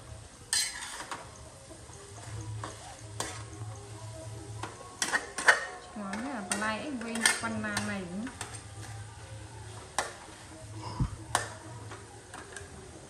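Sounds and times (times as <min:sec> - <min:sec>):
spatula scraping a steel wok: 0:00.5 - 0:01.4, 0:02.0 - 0:11.6.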